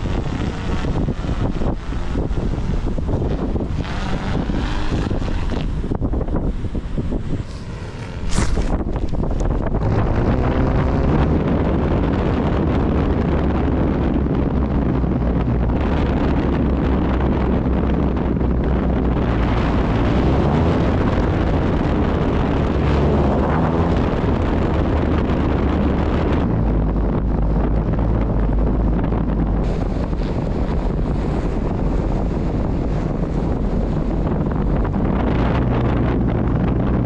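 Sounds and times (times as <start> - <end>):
strong wind buffeting microphone: 0.0 - 37.0.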